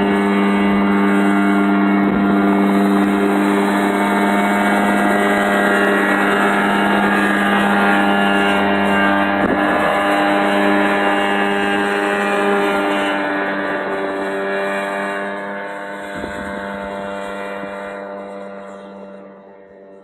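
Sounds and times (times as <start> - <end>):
ultralight helicopter engine and rotor: 0.0 - 20.0.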